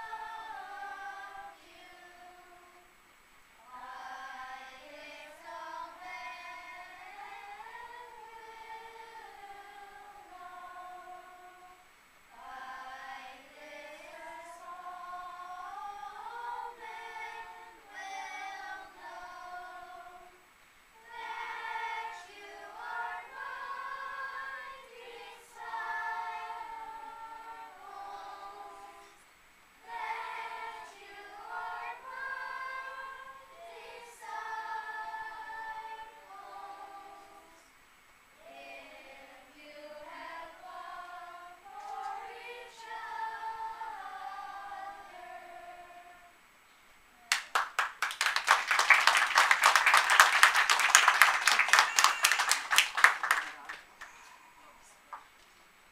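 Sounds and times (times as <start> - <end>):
children's choir singing: 0.0 - 3.0, 3.6 - 29.2, 29.8 - 37.8, 38.4 - 46.5, 48.3 - 54.5.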